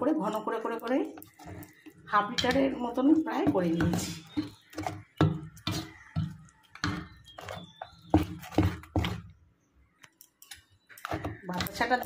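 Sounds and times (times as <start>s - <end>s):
spoon stirring wet batter: 0.0s - 12.0s.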